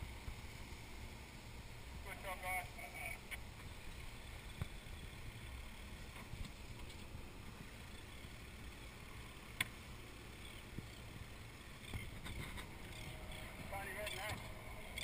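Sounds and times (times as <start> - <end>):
low rumble of sea water: 0.0 - 15.0.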